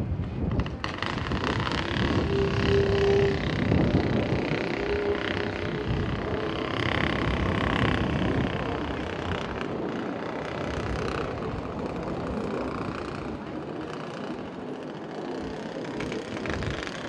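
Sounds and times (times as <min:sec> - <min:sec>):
distant jet engine rumble: 0:00.0 - 0:17.0.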